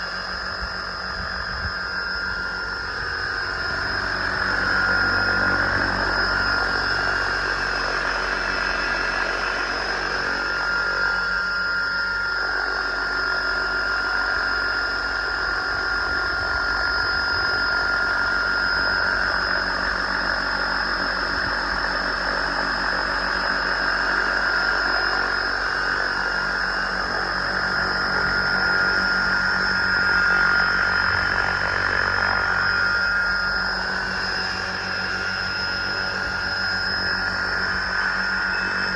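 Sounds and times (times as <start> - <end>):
high-pitched motor whine: 0.0 - 38.9.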